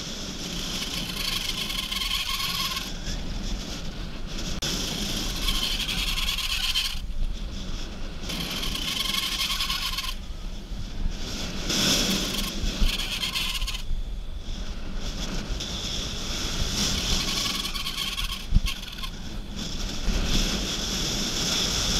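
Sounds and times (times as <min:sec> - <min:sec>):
bicycle tyres rolling on asphalt: 0:00.0 - 0:21.9
high whir: 0:00.0 - 0:21.9
wind on microphone: 0:00.0 - 0:21.9.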